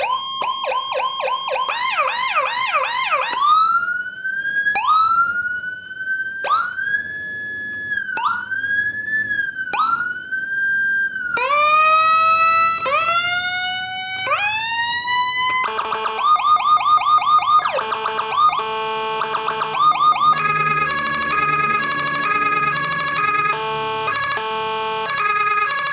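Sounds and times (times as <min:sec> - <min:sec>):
electronic siren whooping: 0:00.0 - 0:25.9
siren fast pulsing yelp: 0:00.0 - 0:25.9
siren held tone: 0:00.0 - 0:25.9.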